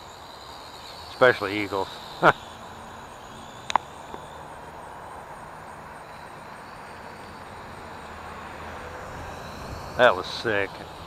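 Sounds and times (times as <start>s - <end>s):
faint quadcopter motor whine: 0.0s - 11.0s.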